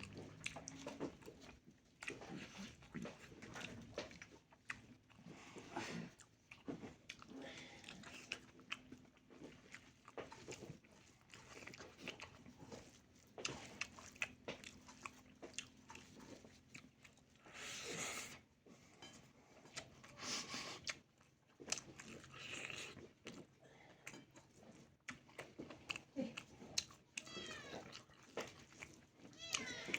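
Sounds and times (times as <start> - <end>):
person chewing crunchy food: 0.0 - 29.9.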